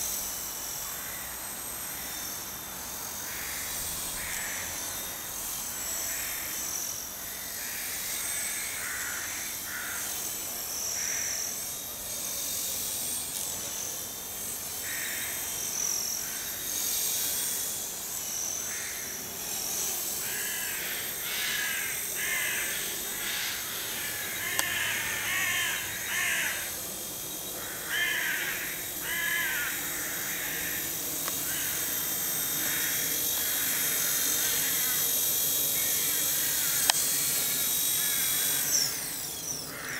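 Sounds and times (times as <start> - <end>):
rc helicopter high whine: 0.0 - 39.9.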